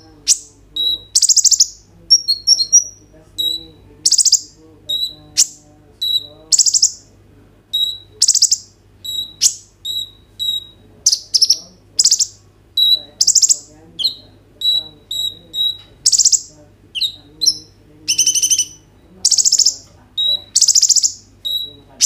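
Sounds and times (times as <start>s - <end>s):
rapid buzzy bird trills: 0.0s - 7.1s, 7.7s - 22.0s
sunbird calling: 0.0s - 7.1s, 7.7s - 22.0s.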